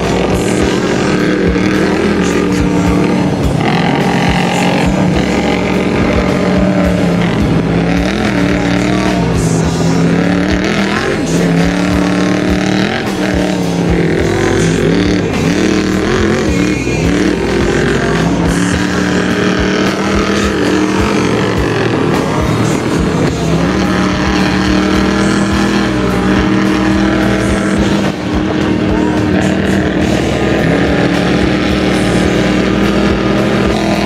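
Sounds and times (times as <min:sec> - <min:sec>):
off-road truck engines revving: 0:00.0 - 0:34.0.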